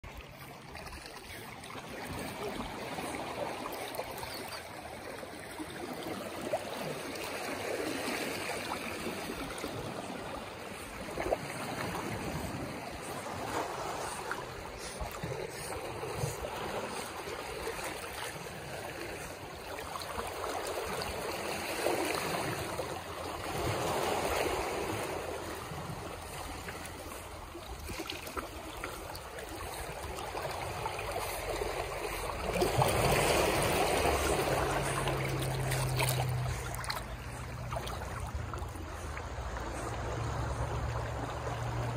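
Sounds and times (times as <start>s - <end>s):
dog paddling splashes: 0.0s - 41.9s
seawater sloshing and lapping: 0.0s - 41.9s.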